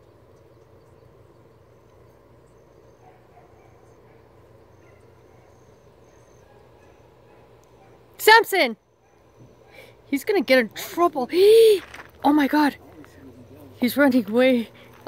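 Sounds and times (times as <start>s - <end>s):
insects chirping: 0.0s - 15.0s
low background hum: 0.0s - 15.0s.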